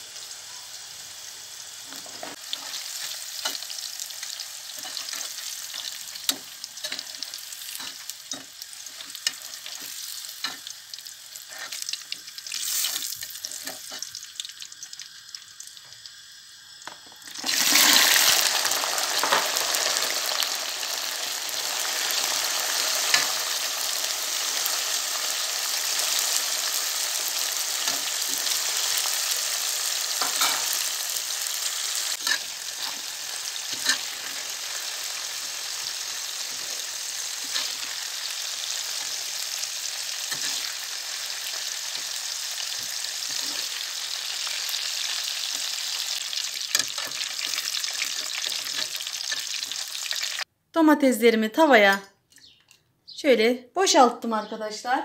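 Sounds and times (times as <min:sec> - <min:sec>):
peppers sizzling in hot oil: 0:00.0 - 0:50.5.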